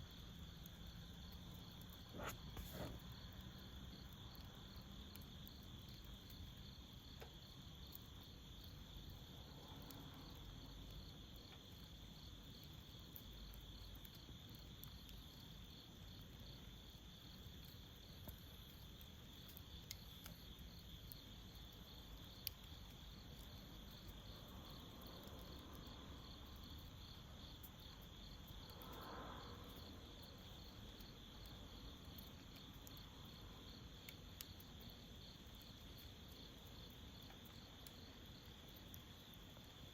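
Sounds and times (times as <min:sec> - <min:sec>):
charcoal ticking: 0:00.1 - 0:09.1, 0:09.8 - 0:29.8, 0:30.5 - 0:39.9
crickets chirping: 0:00.1 - 0:39.9.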